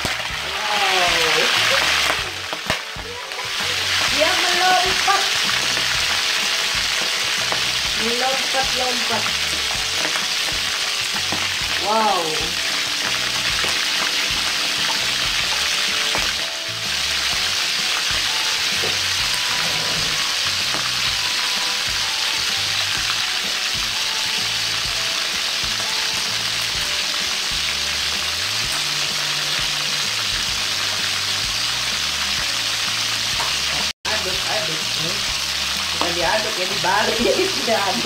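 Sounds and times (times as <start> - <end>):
shrimp sizzling in hot oil: 0.0 - 38.0.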